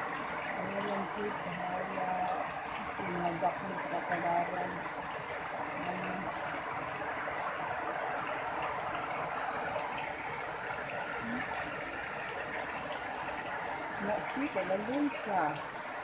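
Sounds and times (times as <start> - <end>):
rain falling onto water: 0.0 - 16.0.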